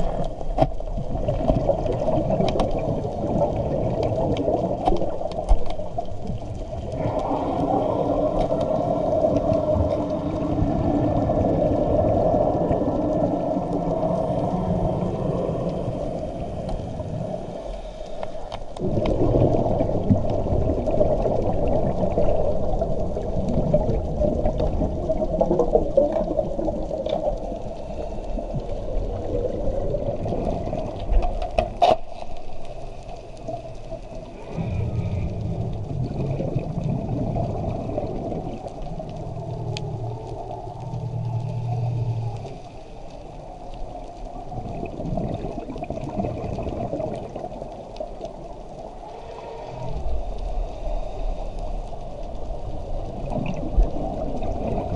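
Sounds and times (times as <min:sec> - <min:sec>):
underwater air bubbles rushing: 0:00.0 - 0:54.9.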